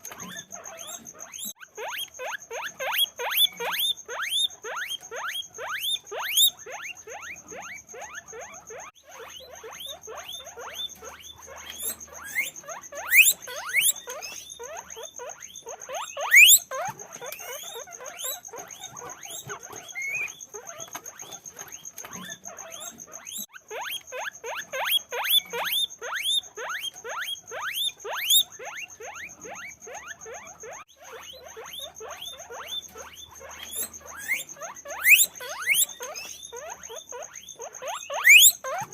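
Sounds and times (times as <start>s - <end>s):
guinea pigs squeaking: 0.0s - 38.9s.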